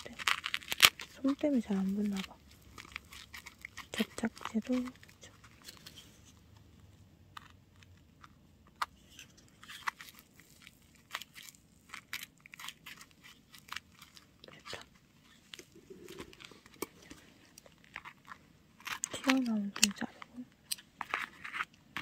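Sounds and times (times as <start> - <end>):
paper crinkling: 0.0 - 22.0.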